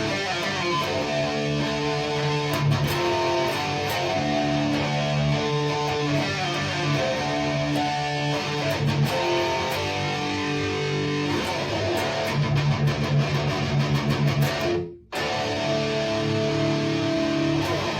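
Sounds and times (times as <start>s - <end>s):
electric guitar playing: 0.0s - 17.9s.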